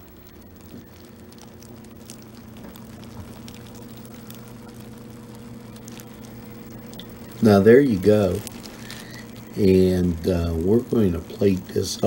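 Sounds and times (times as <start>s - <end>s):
soup bubbling: 0.0s - 12.0s
steady low hum: 0.0s - 12.0s.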